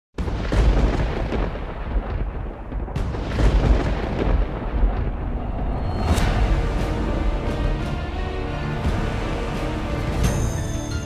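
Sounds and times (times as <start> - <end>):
deep rumbling booms: 0.2 - 10.0.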